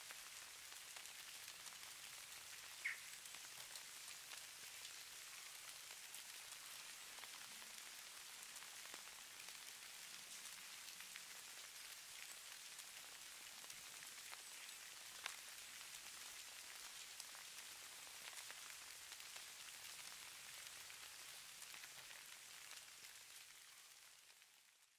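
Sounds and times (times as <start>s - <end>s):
patter of falling snow: 0.0s - 24.9s.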